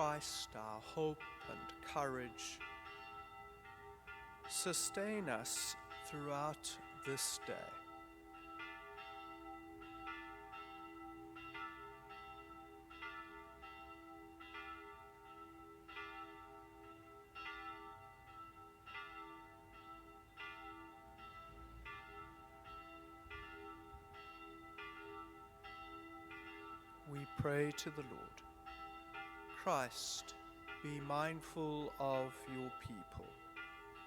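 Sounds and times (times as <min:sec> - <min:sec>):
church bells ringing: 0:00.0 - 0:34.0.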